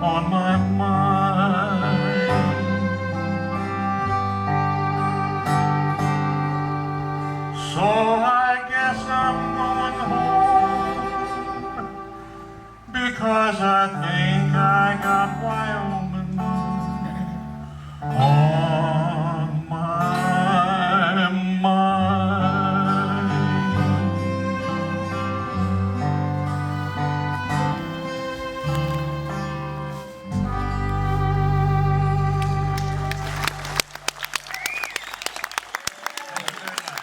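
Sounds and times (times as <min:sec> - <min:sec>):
live western music: 0:00.0 - 0:35.8.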